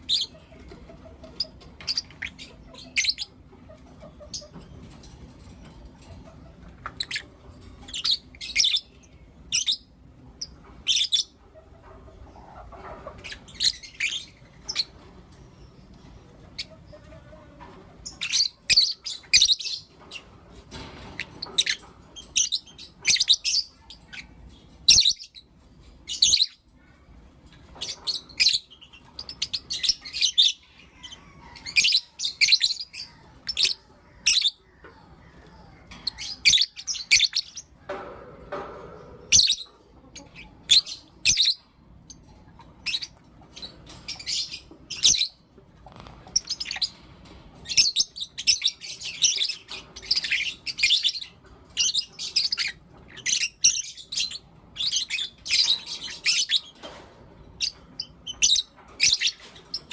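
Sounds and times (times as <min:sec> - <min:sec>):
lovebirds chirping: 0:00.0 - 0:37.9, 0:39.0 - 0:59.9.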